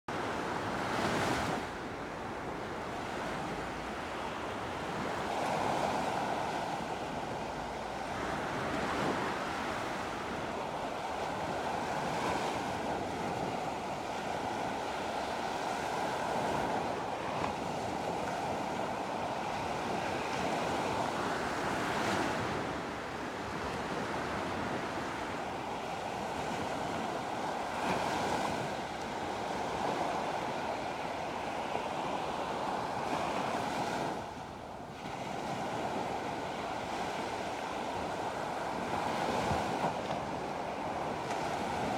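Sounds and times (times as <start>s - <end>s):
sea waves breaking on a beach: 0.1s - 41.9s.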